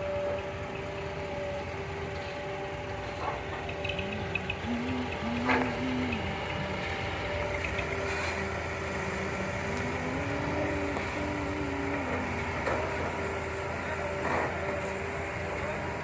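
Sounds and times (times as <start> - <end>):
diesel engine running: 0.0 - 16.0
hydraulic whine: 0.0 - 16.0.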